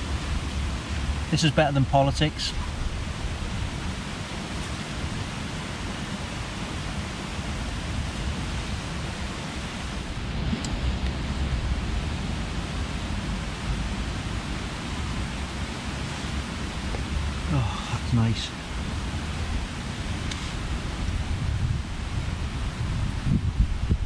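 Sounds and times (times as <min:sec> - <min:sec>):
rain on tent canvas: 0:00.0 - 0:24.0.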